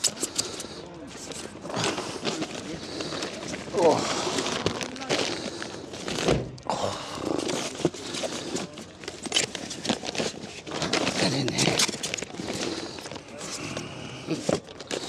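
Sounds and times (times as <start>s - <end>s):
packing material rustling: 0.0s - 6.6s, 7.2s - 15.0s.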